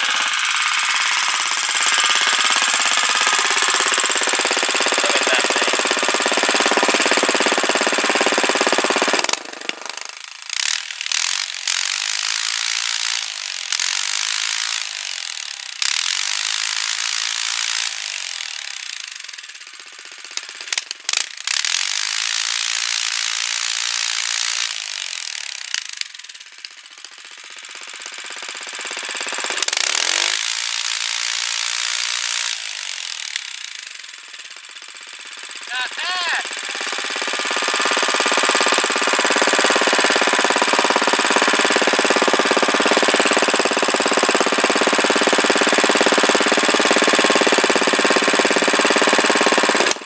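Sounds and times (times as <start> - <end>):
small engine revving: 0.0 - 50.0.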